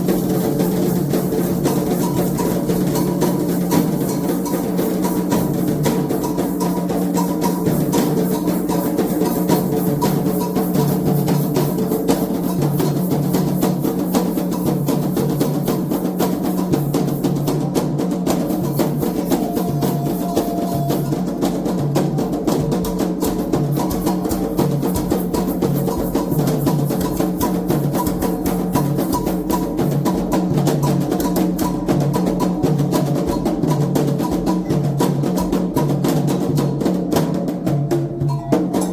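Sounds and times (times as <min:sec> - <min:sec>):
hand drums playing fast rhythm: 0:00.0 - 0:38.9.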